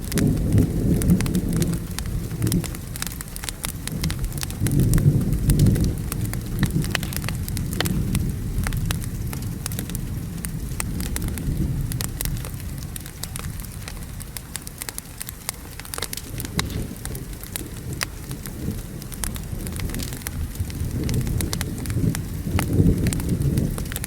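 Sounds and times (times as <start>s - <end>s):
thunder rolling: 0.0s - 13.0s, 16.2s - 24.0s
steady rain: 0.0s - 24.0s
wood fire crackling: 0.0s - 24.0s.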